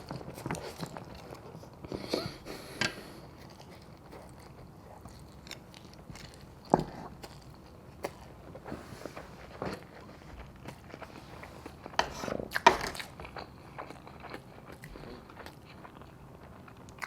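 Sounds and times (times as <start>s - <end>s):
chewing and wet mouth noises: 0.0s - 17.0s.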